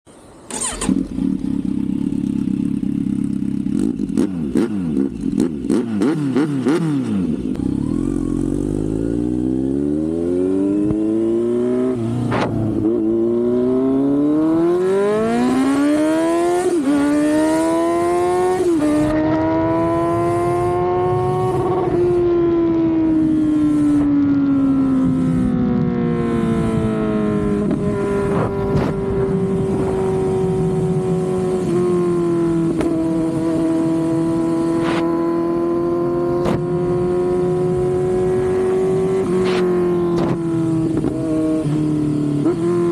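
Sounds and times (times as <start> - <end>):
motorcycle engine idling and accelerating: 0.1 - 42.9.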